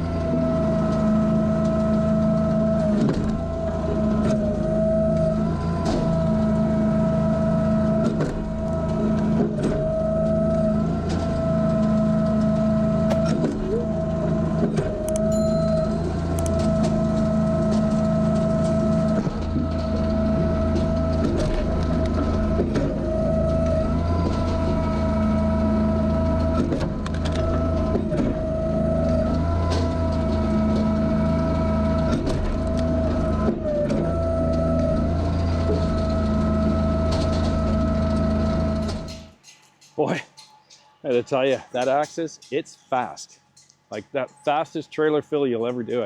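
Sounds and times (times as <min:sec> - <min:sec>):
wood splitter engine hum: 0:00.0 - 0:39.4.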